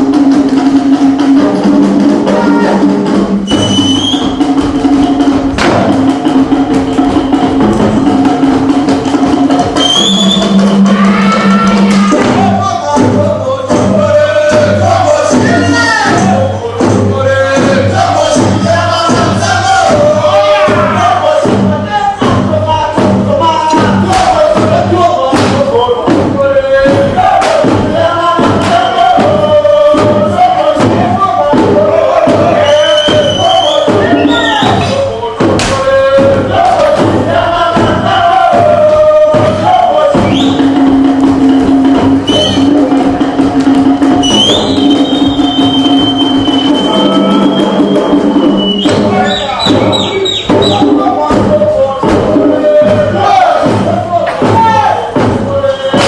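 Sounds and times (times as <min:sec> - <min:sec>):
group singing or chanting: 0:00.0 - 0:56.0
music with wood-block and drums: 0:00.0 - 0:56.0.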